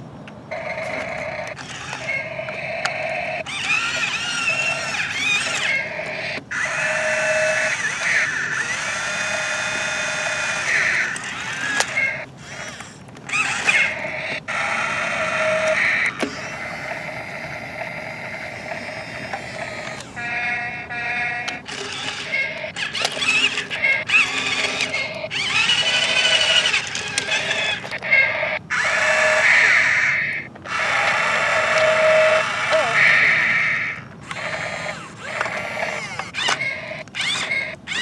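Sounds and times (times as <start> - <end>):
toy excavator motors whining: 0.5 - 38.0.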